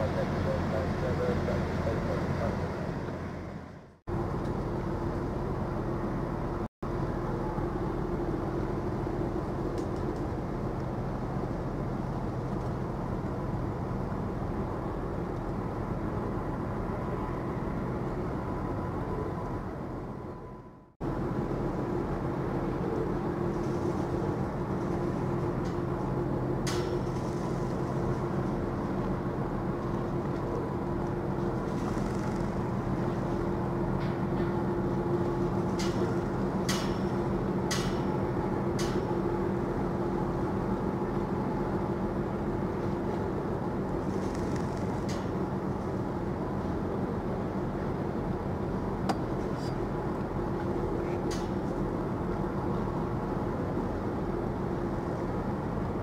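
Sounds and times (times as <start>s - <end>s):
ship engine drone: 0.0s - 56.0s.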